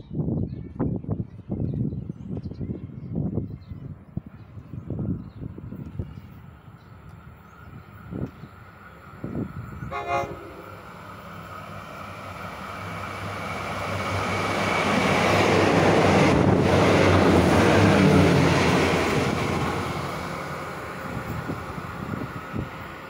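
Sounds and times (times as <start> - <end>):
diesel train passing: 3.9 - 23.0
wheels rumbling on rails: 4.2 - 23.0.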